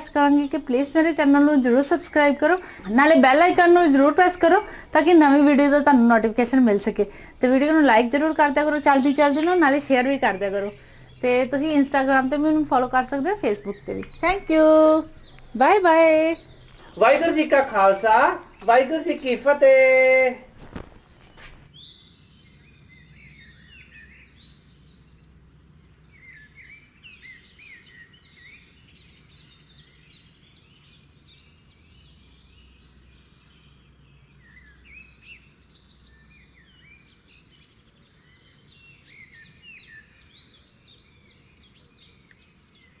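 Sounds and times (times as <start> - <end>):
faint low background hum: 0.0 - 43.0
small birds chirping: 0.0 - 43.0.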